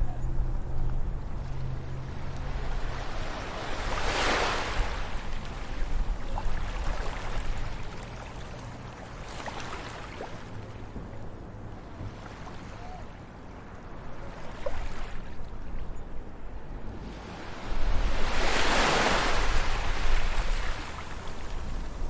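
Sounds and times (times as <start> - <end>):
low rumble of surf: 0.0 - 22.0
ocean waves crashing: 1.1 - 15.2, 16.7 - 22.0.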